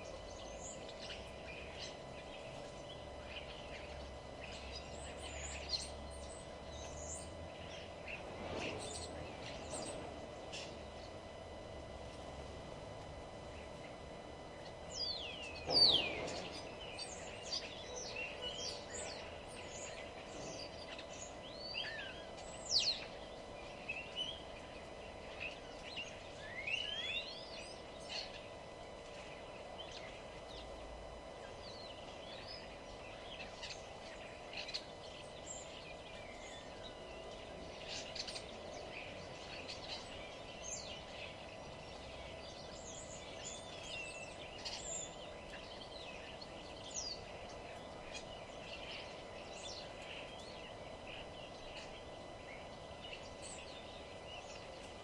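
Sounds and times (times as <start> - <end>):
faint steady hum: 0.0 - 55.0
songbirds chirping and whistling: 0.0 - 55.0.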